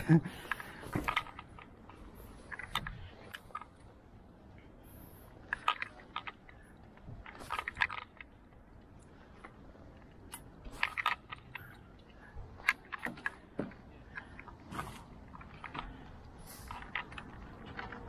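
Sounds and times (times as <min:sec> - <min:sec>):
crab trap gear clattering: 0:00.0 - 0:03.9, 0:05.4 - 0:18.0.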